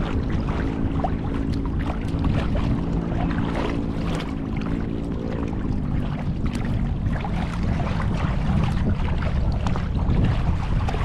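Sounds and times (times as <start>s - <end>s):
paddle splashing water: 0.0s - 11.0s.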